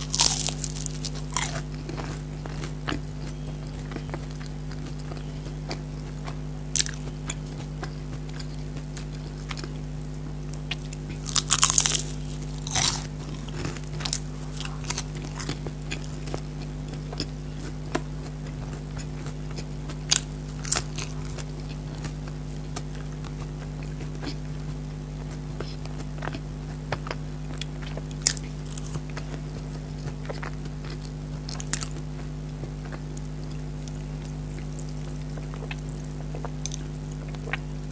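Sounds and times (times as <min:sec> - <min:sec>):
crunchy chewing: 0:00.0 - 0:37.9
steady low hum: 0:00.0 - 0:37.9.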